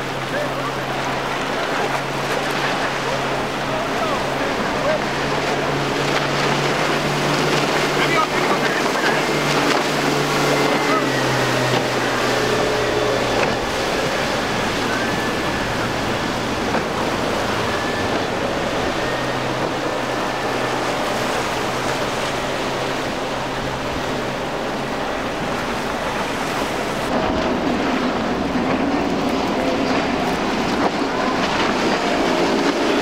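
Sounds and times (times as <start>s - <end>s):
outboard motor hum: 0.0s - 33.0s
surf and boat wake: 0.0s - 33.0s.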